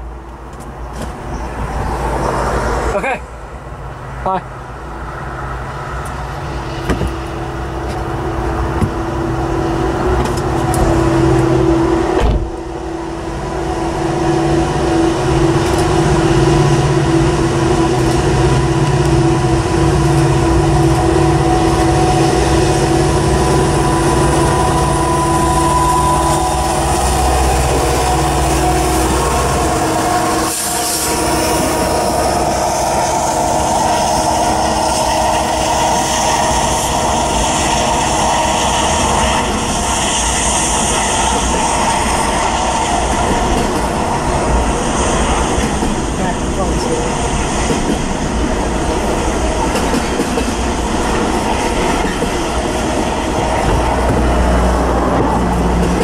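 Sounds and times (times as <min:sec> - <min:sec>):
locomotive drone: 0:00.0 - 0:56.0
train wheels rushing on rail: 0:00.0 - 0:56.0.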